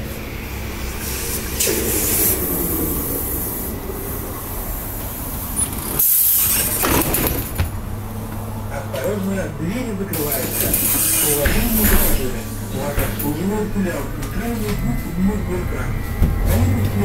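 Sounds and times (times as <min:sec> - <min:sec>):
trolleybus low rumble: 0:00.0 - 0:17.0.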